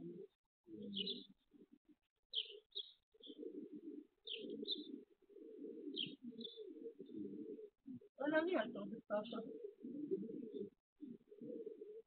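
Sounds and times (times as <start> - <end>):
pigeons cooing: 0.0 - 12.0
small birds chirping: 0.0 - 12.0.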